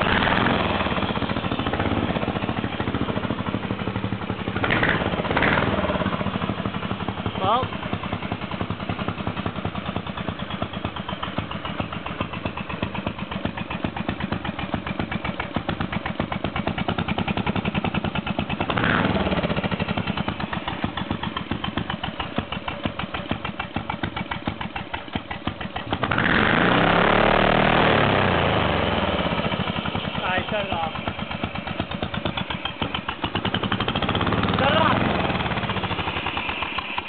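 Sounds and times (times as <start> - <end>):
lawn mower engine running: 0.0 - 37.0.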